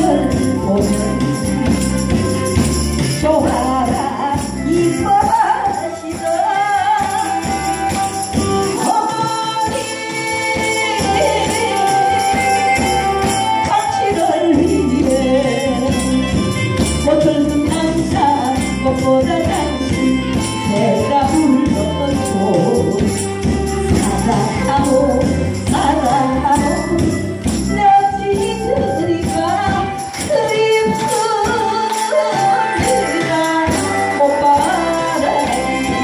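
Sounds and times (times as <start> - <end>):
amplified backing track: 0.0 - 36.0
woman singing into a microphone: 0.0 - 36.0.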